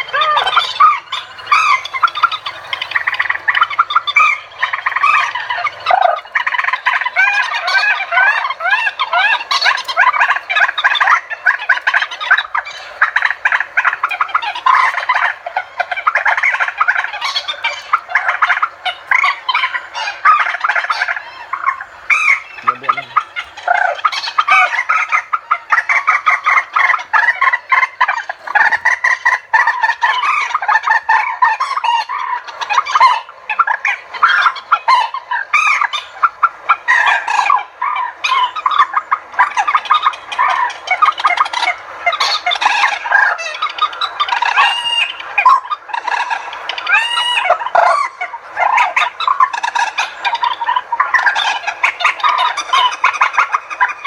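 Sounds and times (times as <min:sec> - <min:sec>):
recorded bird chirping chorus: 0:00.0 - 0:54.0.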